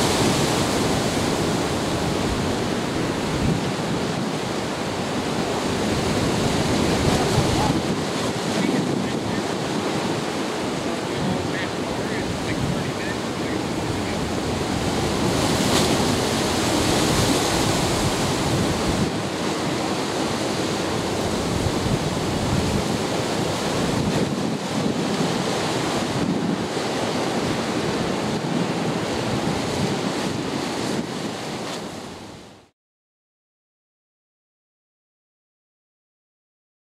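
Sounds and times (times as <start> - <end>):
wind on microphone: 0.0 - 32.6
choppy waves and surf: 0.0 - 32.7.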